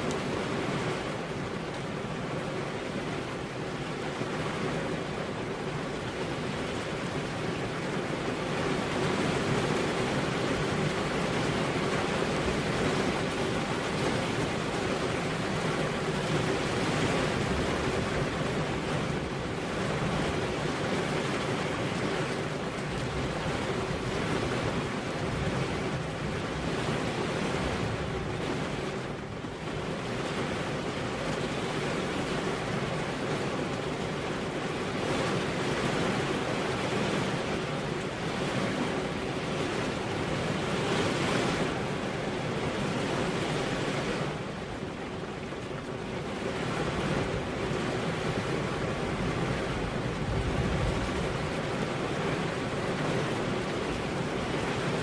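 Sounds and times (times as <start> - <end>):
rain: 0.0 - 55.0
wind: 0.0 - 55.0.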